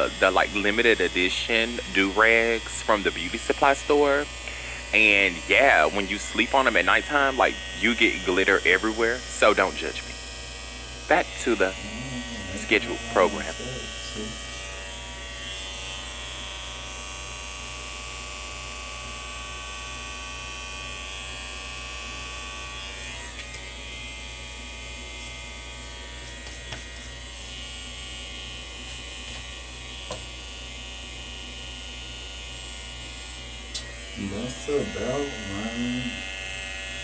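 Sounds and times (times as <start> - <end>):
hair trimmer buzzing: 0.0 - 37.0.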